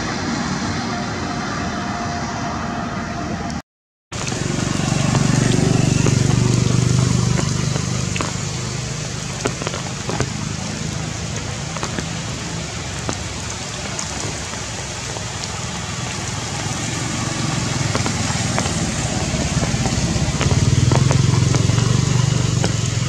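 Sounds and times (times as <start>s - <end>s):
drops tapping: 4.2s - 23.0s
rain falling on foliage: 4.2s - 23.0s.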